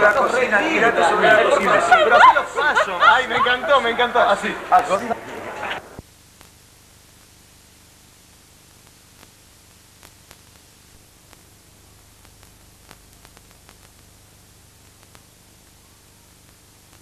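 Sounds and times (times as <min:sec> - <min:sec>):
faint low hum: 0:00.0 - 0:17.0
tape hiss: 0:00.0 - 0:17.0.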